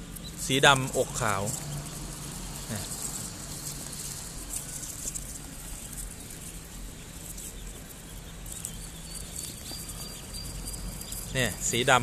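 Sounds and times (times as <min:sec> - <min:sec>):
ducklings peeping: 0:00.0 - 0:12.0
steady low hum: 0:00.0 - 0:12.0.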